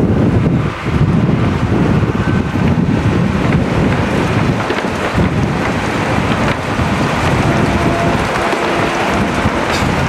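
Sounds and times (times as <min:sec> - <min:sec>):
tram rumbling: 0:00.0 - 0:10.0
wind buffeting microphone: 0:00.0 - 0:10.0.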